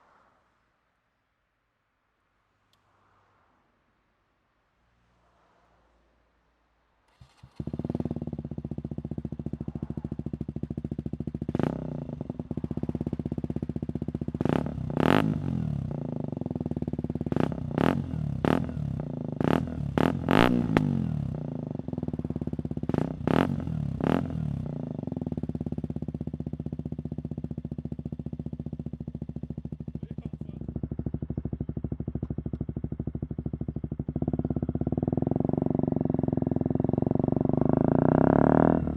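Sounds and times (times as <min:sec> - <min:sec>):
motorcycle engine idling and revving: 0:07.1 - 0:38.9.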